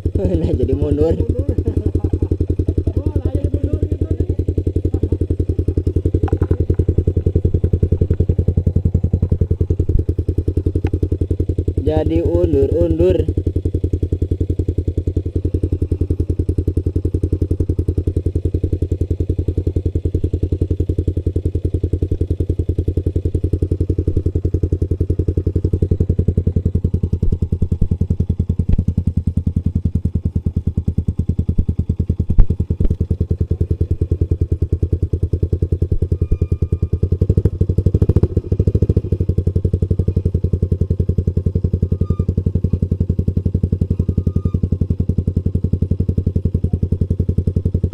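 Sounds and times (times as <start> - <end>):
motorcycle engine at low revs: 0.0 - 47.9.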